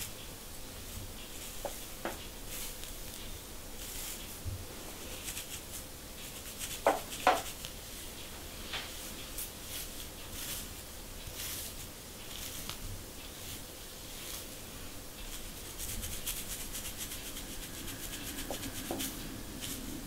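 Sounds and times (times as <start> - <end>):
comb scratching scalp: 0.8 - 8.2, 8.8 - 20.0.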